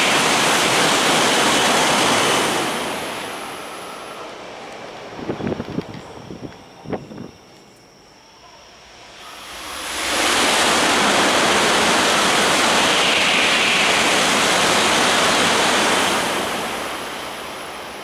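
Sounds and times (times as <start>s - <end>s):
rush of air and wheel noise: 0.0s - 7.3s, 8.9s - 18.0s
train passing at speed: 0.0s - 18.0s.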